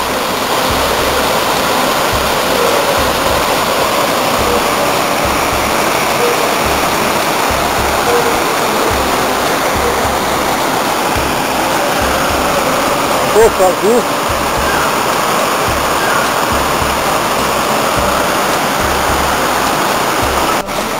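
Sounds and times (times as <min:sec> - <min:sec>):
low rumbles: 0:00.0 - 0:20.9
waterfall rushing: 0:00.0 - 0:20.9.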